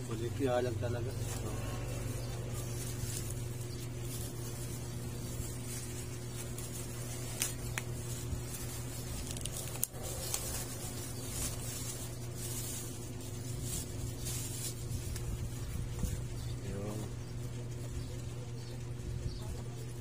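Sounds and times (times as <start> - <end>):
low hum: 0.0 - 20.0
plastic bag crinkling: 0.2 - 16.8.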